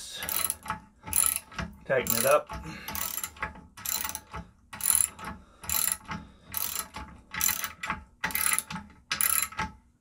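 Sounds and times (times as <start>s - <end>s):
ratchet wrench clicking: 0.2s - 4.2s, 4.8s - 9.6s.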